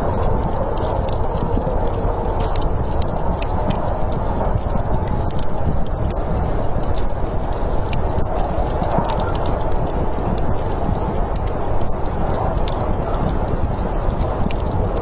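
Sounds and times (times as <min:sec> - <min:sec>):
storm wind rushing: 0:00.0 - 0:15.0
wood fire crackling: 0:00.0 - 0:15.0.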